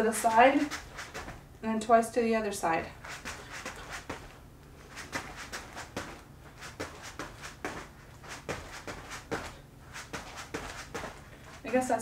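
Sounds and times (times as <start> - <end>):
feet hopping on foam mat: 0.2 - 1.5, 3.0 - 12.0.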